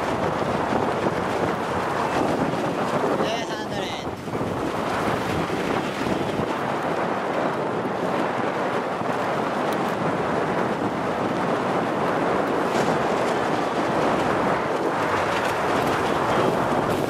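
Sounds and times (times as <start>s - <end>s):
choppy water: 0.0s - 17.0s
wind blowing across microphone: 0.0s - 17.0s.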